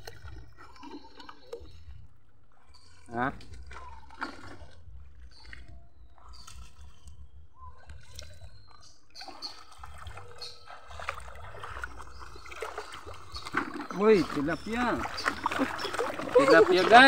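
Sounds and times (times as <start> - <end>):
water sloshing and trickling: 0.0 - 17.0.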